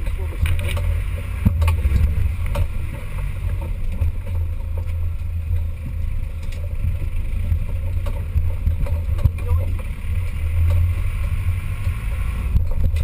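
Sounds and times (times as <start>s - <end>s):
engine running with low drone: 0.0s - 13.0s.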